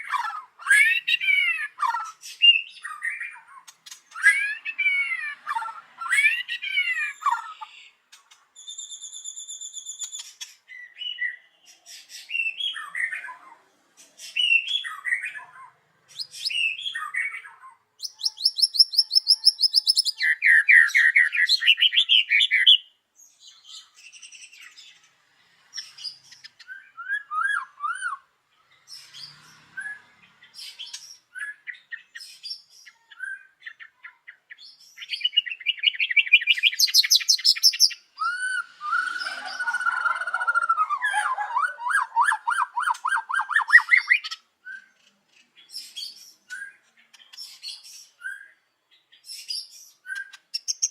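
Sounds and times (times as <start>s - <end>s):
bird singing whistles and trills: 0.0s - 7.8s, 8.6s - 13.4s, 14.2s - 25.0s, 25.8s - 28.3s, 28.9s - 45.0s, 45.7s - 50.9s.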